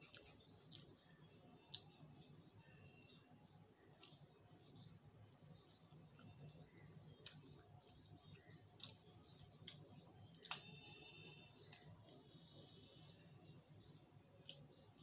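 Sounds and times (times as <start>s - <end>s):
quiet chewing: 0.0s - 15.0s.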